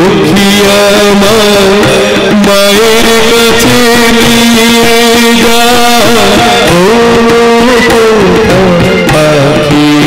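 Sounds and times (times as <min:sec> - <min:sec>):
quick percussion strokes: 0:00.0 - 0:10.0.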